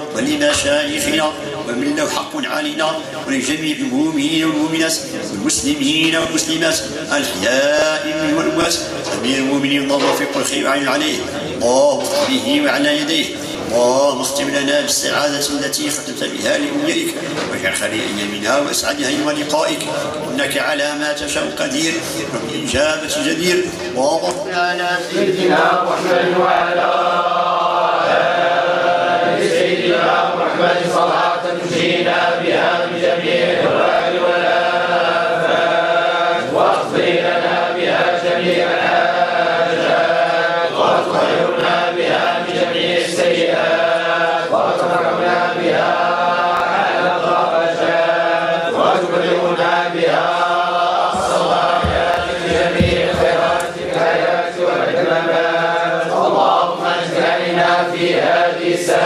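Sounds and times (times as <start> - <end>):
men chanting in unison: 0.0 - 59.0.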